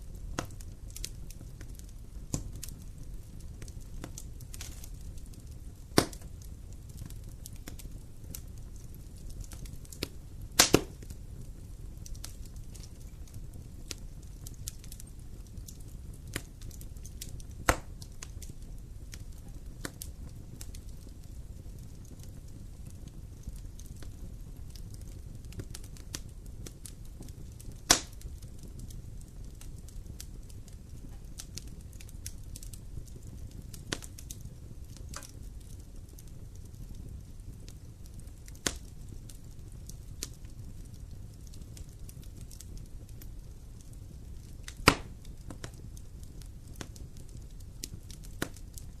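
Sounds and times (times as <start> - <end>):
campfire wood crackling: 0.0 - 49.0
low steady fire rumble: 0.0 - 49.0.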